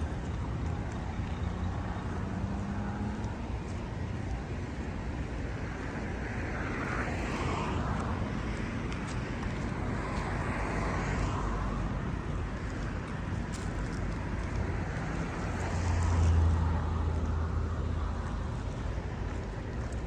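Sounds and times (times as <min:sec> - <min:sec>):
road traffic rush: 0:00.0 - 0:20.0
vehicle engine hum: 0:00.0 - 0:20.0.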